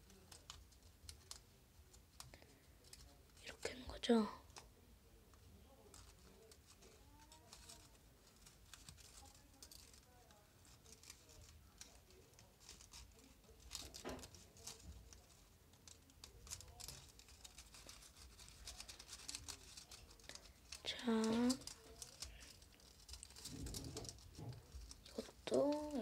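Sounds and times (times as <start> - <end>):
paper rustling and crinkling: 0.0 - 4.7, 5.4 - 26.0.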